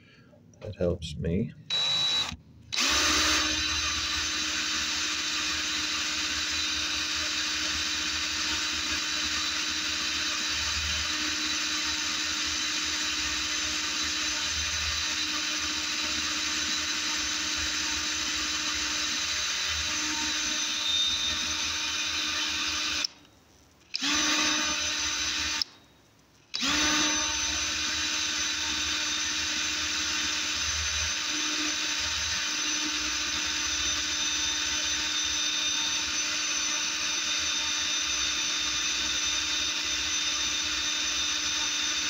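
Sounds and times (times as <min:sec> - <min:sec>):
electric drill drilling into metal: 0:01.7 - 0:23.3, 0:23.9 - 0:25.8, 0:26.5 - 0:42.0.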